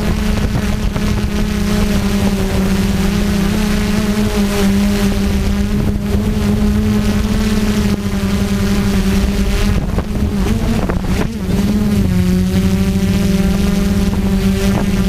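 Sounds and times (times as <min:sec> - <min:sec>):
quadcopter motors buzzing: 0:00.0 - 0:15.0.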